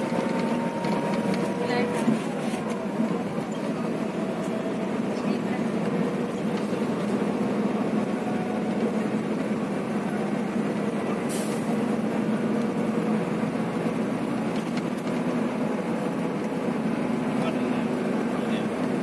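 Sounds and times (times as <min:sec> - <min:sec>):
engine and road drone: 0:00.0 - 0:19.0.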